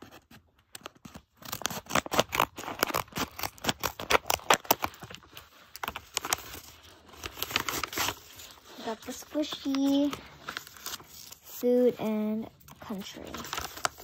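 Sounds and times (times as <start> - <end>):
scissors snipping paper: 0.0 - 14.0.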